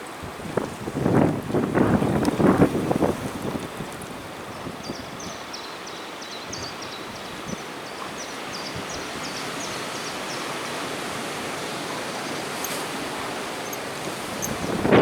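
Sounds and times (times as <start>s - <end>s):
wind noise on microphone: 0.0s - 5.6s, 6.5s - 15.0s.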